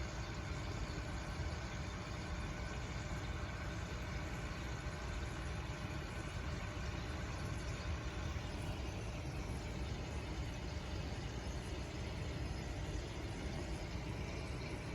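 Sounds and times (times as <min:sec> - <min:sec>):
faint hiss and hum: 0:00.0 - 0:14.9.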